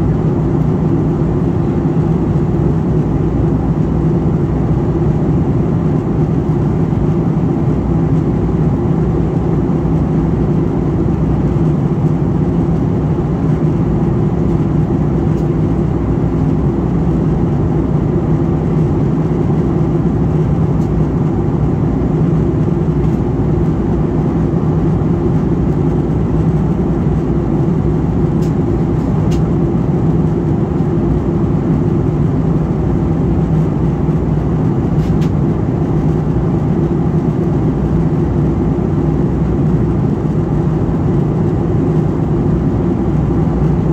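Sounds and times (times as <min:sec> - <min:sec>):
airliner cabin engine noise: 0:00.0 - 0:43.9.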